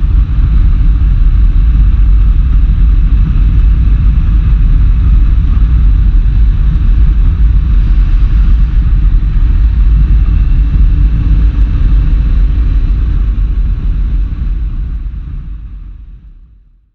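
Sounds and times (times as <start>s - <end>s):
motorcycle engine running: 0.0s - 16.4s
wind on microphone: 0.0s - 16.7s.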